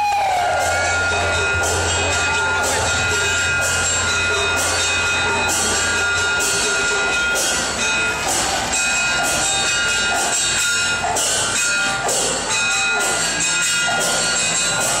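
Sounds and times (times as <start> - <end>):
high held instrument tones: 0.0 - 15.0.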